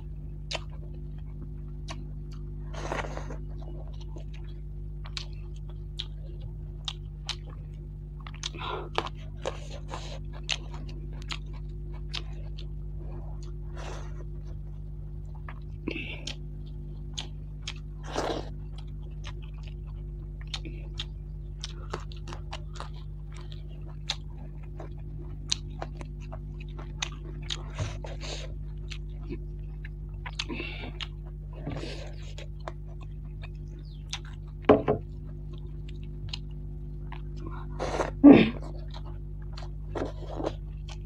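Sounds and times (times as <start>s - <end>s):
low hum: 0.0s - 41.0s
close chewing and lip-smacking: 0.2s - 41.0s.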